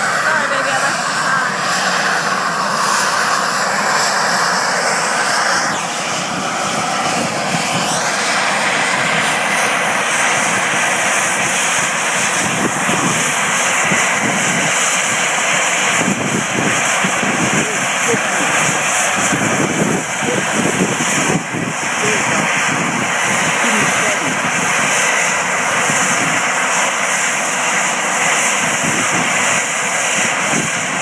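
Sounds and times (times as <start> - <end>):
helicopter turbine engines running: 0.0 - 31.0
rising turbine whine: 0.0 - 31.0.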